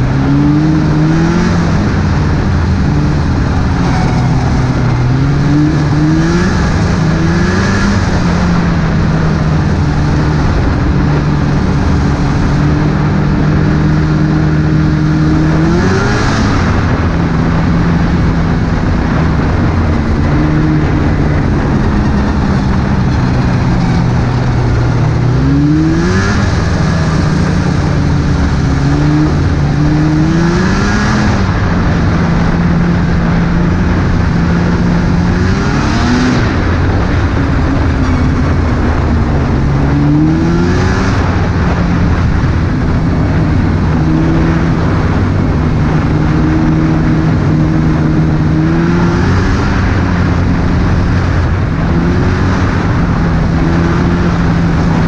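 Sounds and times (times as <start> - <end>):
snowmobile engine revving: 0.0 - 55.0
steady rushing noise: 0.0 - 55.0.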